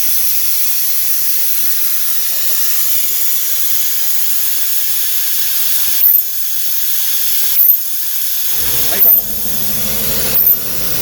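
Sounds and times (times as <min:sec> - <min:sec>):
vacuum pump hissing: 0:00.0 - 0:11.0.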